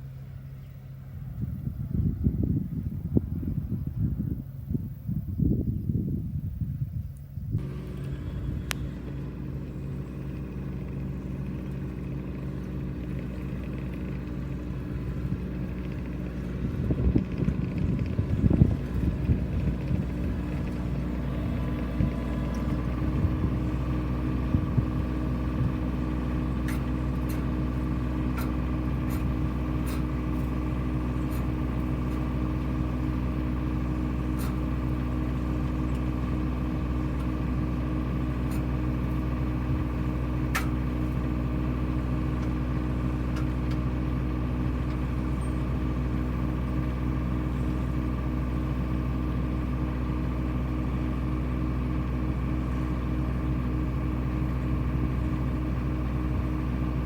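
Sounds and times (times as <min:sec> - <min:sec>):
harvesting machine engine running: 0:07.6 - 0:57.0.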